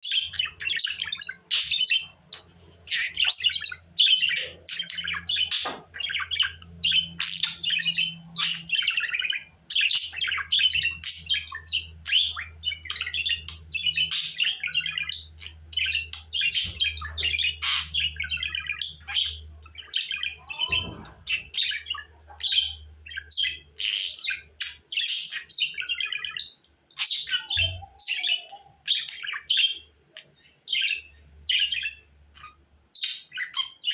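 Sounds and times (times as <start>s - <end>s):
budgerigars chirping and trilling: 0.0s - 33.9s.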